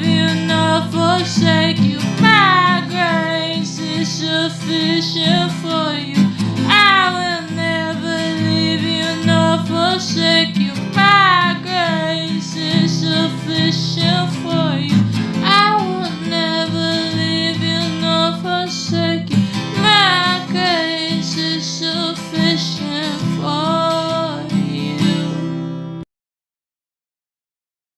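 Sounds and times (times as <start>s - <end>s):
woman singing without words: 0.0s - 25.6s
acoustic guitar: 0.0s - 26.0s.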